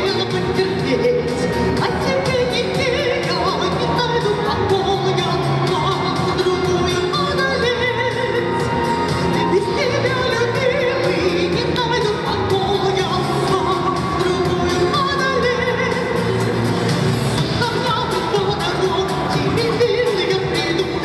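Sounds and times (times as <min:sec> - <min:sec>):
pop instrumental with steady beat: 0:00.0 - 0:21.0
woman singing with vibrato: 0:00.0 - 0:21.0.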